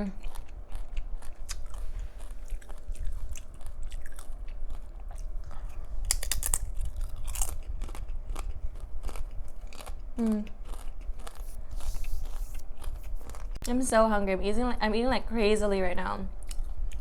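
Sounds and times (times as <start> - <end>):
chewing with crisp crunches: 0.0 - 13.7, 16.4 - 17.0.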